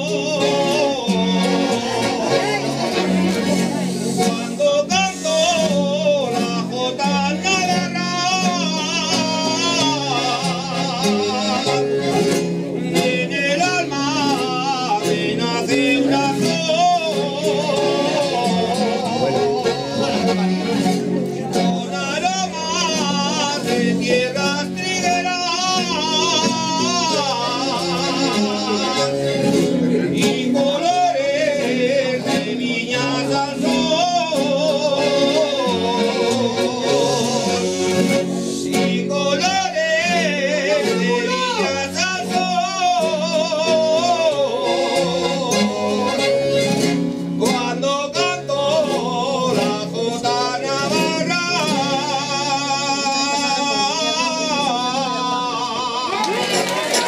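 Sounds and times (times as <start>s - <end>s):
men singing with vibrato: 0.0s - 20.8s, 21.6s - 57.0s
accordion: 0.0s - 57.0s
guitar: 0.0s - 57.0s.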